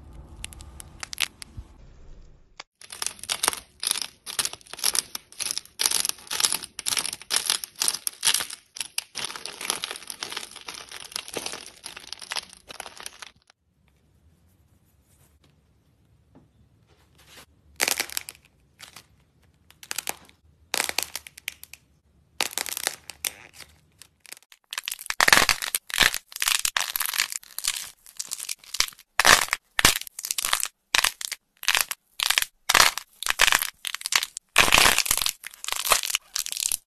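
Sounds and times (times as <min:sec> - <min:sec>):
clay coating cracking: 0:02.7 - 0:13.6, 0:17.8 - 0:36.9.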